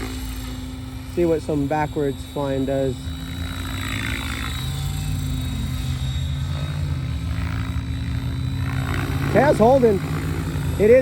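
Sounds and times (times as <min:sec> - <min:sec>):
rc helicopter rotor drone: 0:00.0 - 0:11.0.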